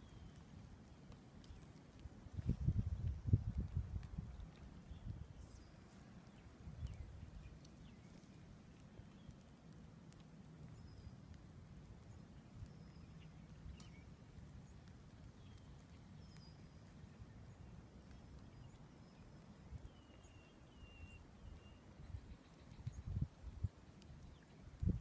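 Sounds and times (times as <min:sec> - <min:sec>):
faint wind rumble: 0:00.0 - 0:09.9, 0:10.6 - 0:25.0.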